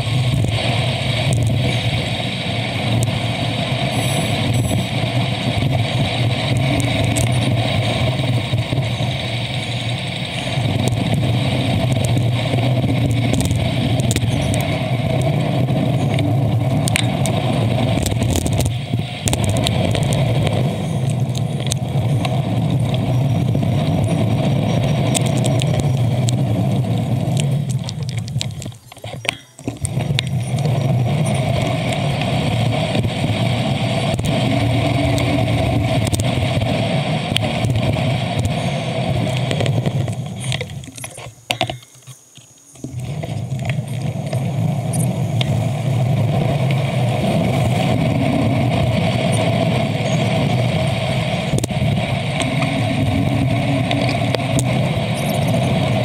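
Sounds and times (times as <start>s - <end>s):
vehicle engines running: 0.0s - 41.8s, 42.8s - 56.0s
traffic and road noise: 0.0s - 56.0s.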